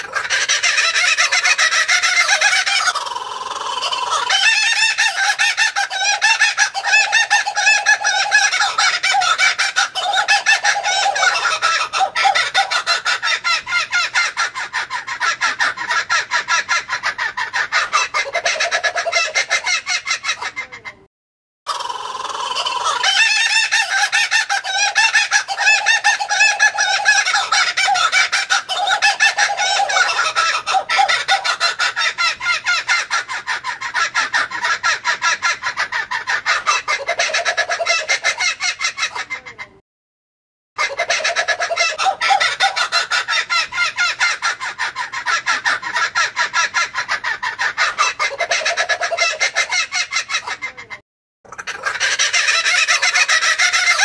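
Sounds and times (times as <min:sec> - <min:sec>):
kookaburra laughing call: 0:00.0 - 0:21.0, 0:21.7 - 0:39.8, 0:40.8 - 0:54.0.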